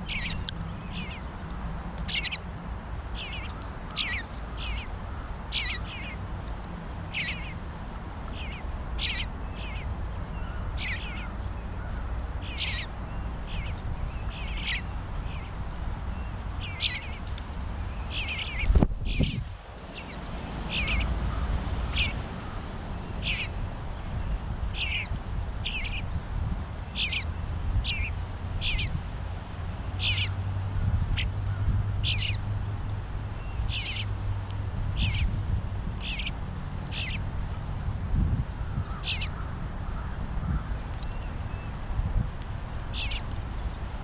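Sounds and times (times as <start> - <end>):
bird fledglings calling: 0.0 - 1.4, 2.0 - 6.3, 7.0 - 7.7, 8.3 - 41.8, 42.7 - 43.8
low steady rumble: 0.0 - 44.0.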